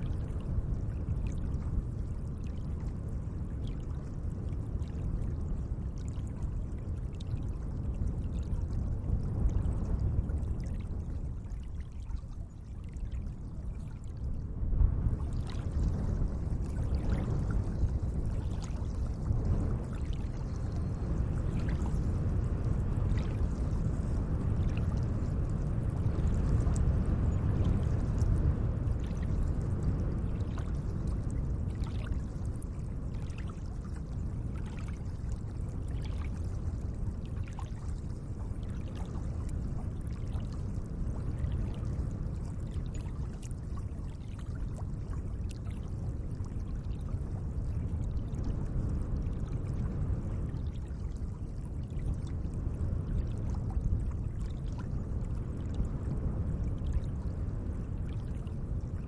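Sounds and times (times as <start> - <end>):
small water splashes and drips: 0.0 - 14.4, 15.1 - 57.4, 58.0 - 59.0.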